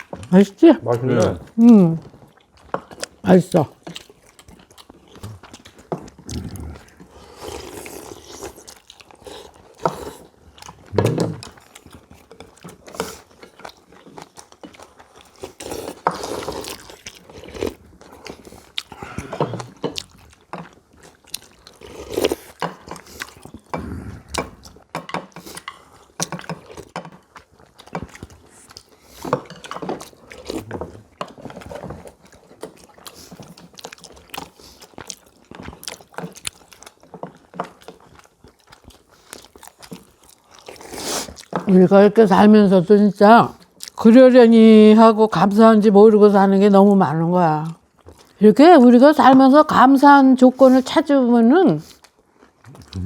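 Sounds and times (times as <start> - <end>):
people chewing: 0.0 - 53.0.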